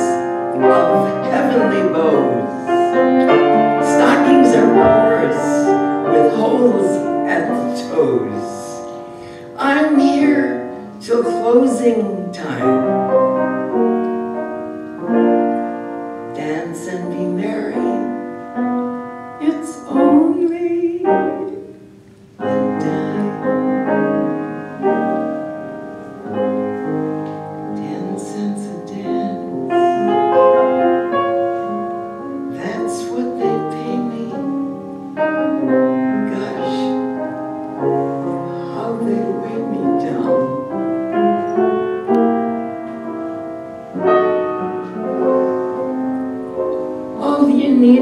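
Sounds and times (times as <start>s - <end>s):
solo piano ballad: 0.0s - 48.0s.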